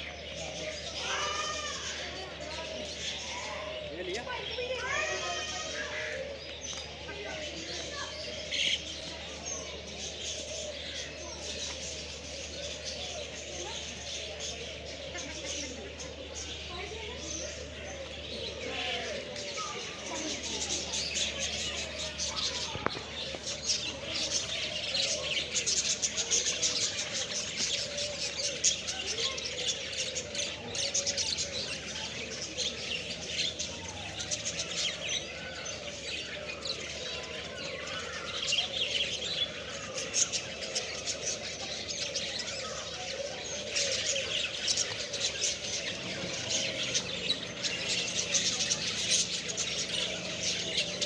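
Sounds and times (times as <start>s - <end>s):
cage birds chirping: 0.0s - 51.0s.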